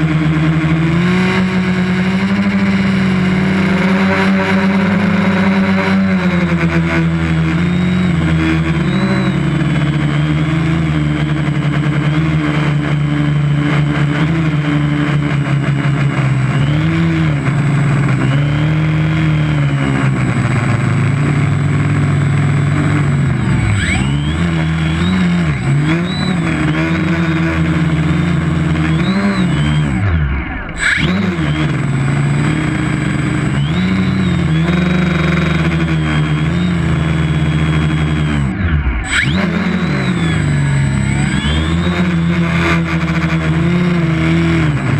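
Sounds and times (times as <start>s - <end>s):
drone propellers whining: 0.0s - 44.9s.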